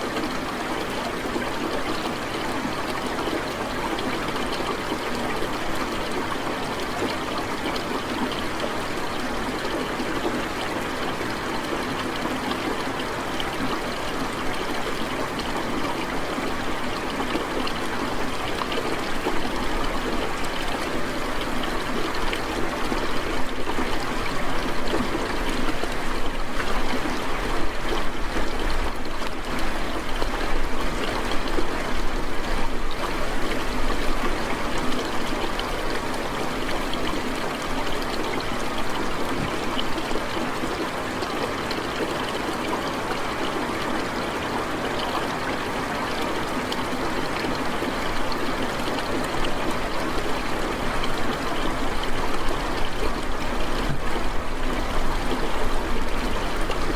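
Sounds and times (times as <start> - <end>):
water rushing: 0.0 - 56.9.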